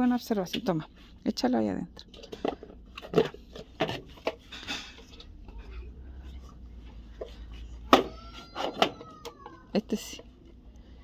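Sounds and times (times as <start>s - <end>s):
low steady rumble: 0.0s - 8.3s, 9.2s - 11.0s.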